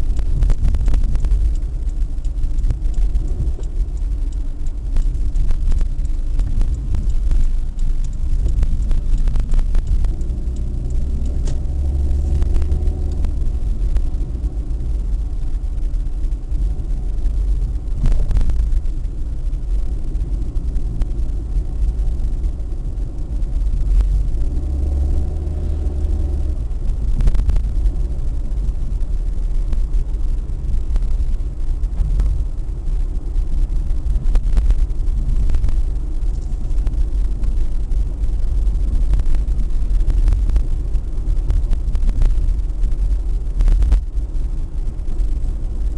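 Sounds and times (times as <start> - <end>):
road vehicle engine rumble: 0.0 - 45.9.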